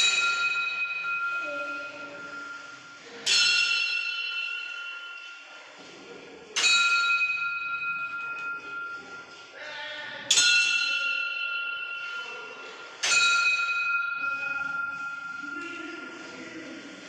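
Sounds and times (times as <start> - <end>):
metal bell ringing: 0.0 - 5.8, 6.6 - 9.6, 10.2 - 16.8.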